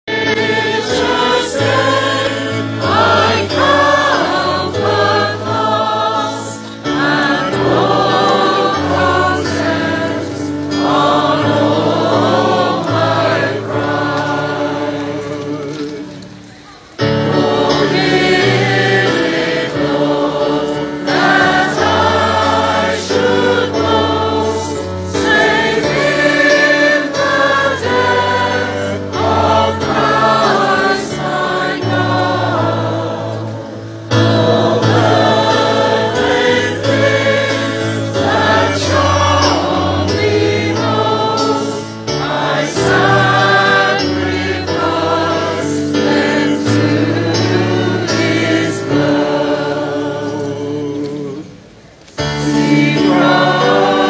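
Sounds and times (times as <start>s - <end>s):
gospel choir singing: 0.0s - 54.0s.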